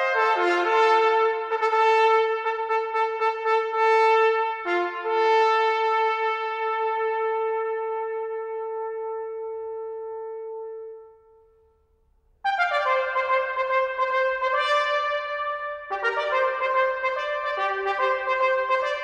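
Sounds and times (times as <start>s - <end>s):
trumpet playing: 0.0s - 11.2s, 12.4s - 19.0s.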